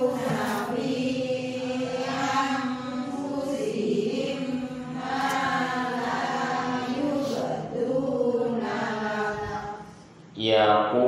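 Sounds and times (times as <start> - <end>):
melodic chanted recitation: 0.0 - 11.0.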